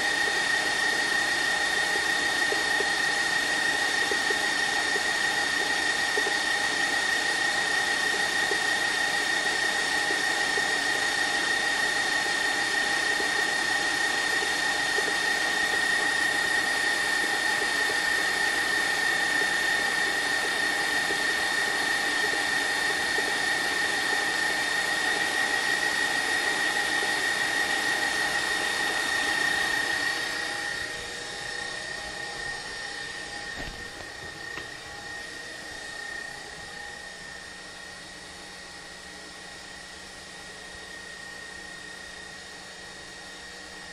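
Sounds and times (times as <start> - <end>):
stand mixer motor whining: 0.0 - 43.9.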